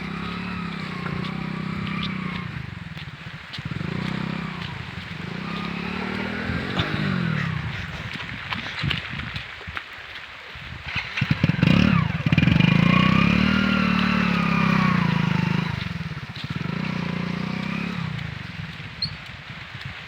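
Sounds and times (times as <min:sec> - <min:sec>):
motorcycle engine revving: 0:00.0 - 0:08.2, 0:10.9 - 0:19.5.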